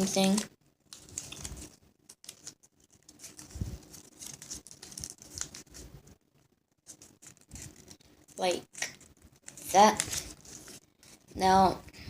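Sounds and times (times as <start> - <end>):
paper crinkling and rustling: 0.0 - 6.2, 6.8 - 11.4.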